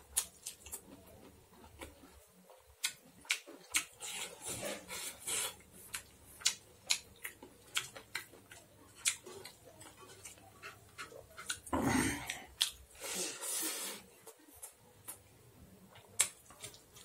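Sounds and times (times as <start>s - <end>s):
wet chewing: 0.1s - 12.8s, 15.9s - 17.0s.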